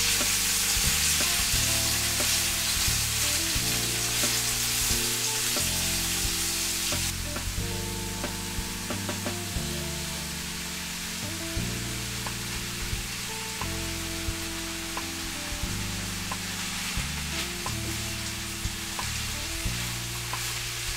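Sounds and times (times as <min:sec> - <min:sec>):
food sizzling in a frying pan: 0:00.0 - 0:20.9.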